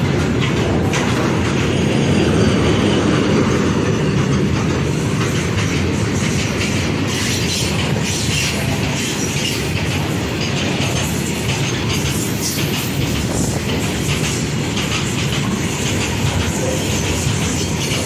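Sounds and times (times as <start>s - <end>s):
steel wheels rumbling on rails: 0.0s - 18.0s
sharp wheel clacks: 3.5s - 18.0s.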